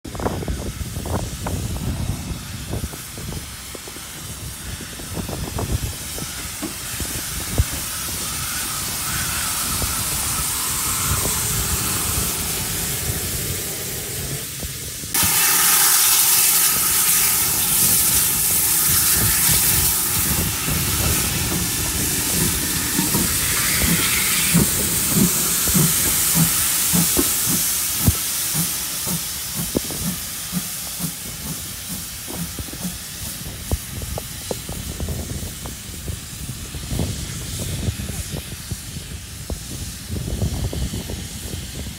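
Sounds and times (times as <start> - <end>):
steam engine hissing: 0.1 - 41.9.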